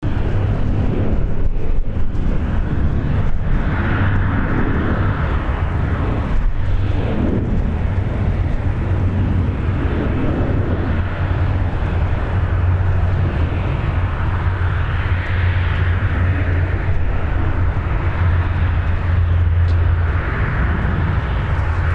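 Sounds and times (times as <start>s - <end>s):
jet engines rumbling: 0.0s - 21.9s.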